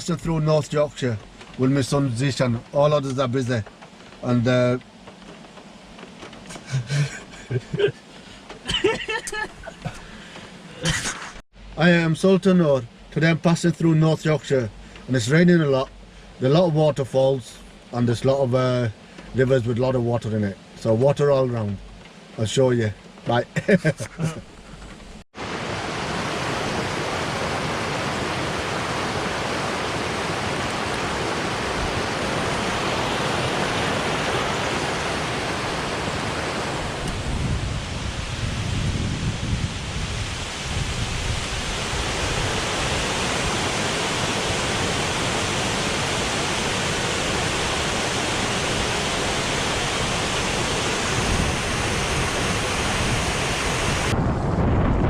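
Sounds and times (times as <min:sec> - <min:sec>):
rushing stream or waterfall: 0:00.0 - 0:54.9.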